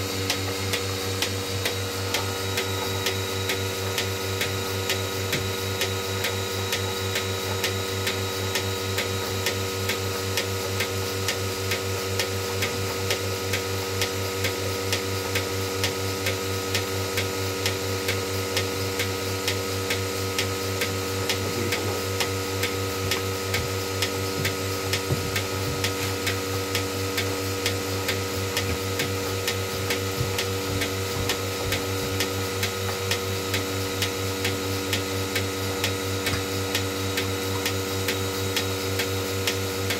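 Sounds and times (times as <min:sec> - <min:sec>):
vacuum pump motor humming: 0:00.0 - 0:39.9.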